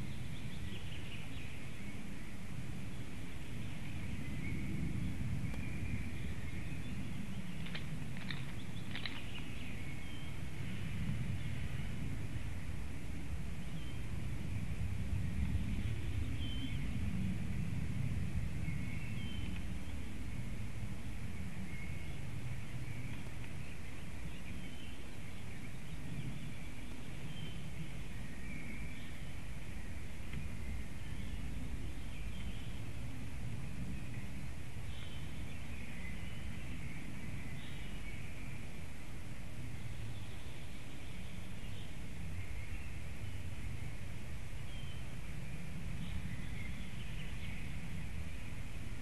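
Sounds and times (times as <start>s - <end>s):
faint distant birdsong: 0.0s - 49.0s
low wind rumble: 0.0s - 49.0s.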